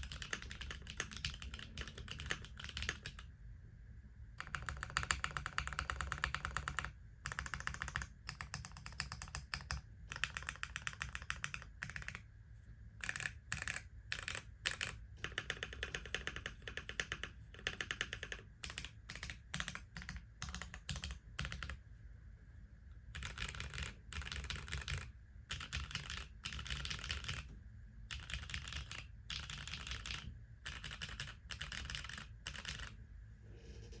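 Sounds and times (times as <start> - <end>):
mechanical keyboard typing: 0.0 - 3.3, 4.4 - 12.2, 13.0 - 21.8, 23.1 - 27.5, 28.1 - 33.0.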